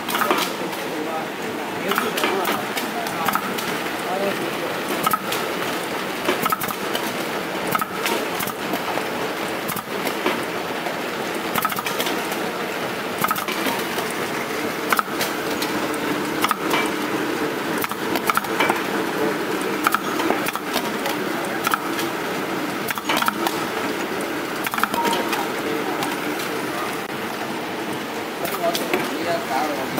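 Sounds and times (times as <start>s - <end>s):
sorting machine running: 0.0s - 29.9s.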